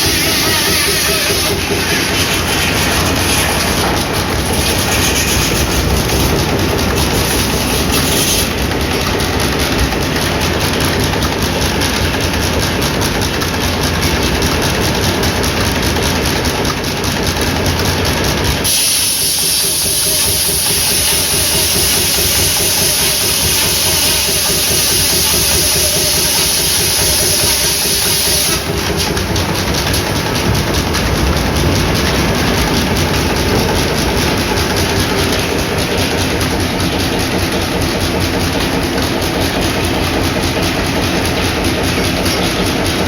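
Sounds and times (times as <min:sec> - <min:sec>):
sawmill machinery pulsing: 0:00.0 - 0:43.0.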